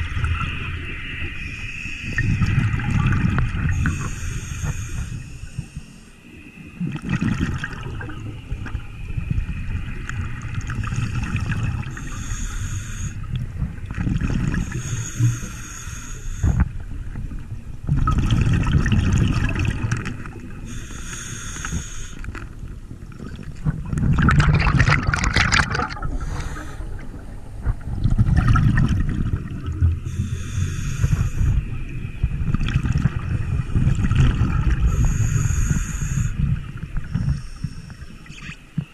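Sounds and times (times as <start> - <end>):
exhaust bubbles rumbling underwater: 0.0 - 38.9.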